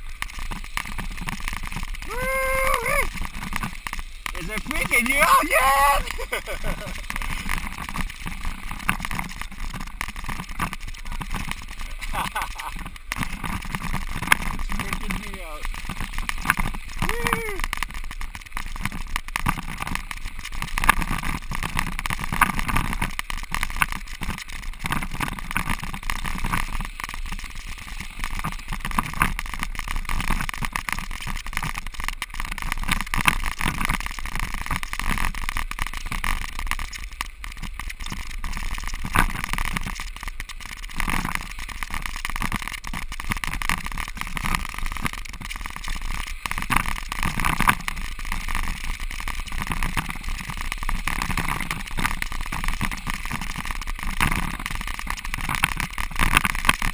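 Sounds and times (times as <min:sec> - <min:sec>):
bike clicking and rattling: 0:00.0 - 0:56.9
bike tyres rolling over ice: 0:00.0 - 0:56.9.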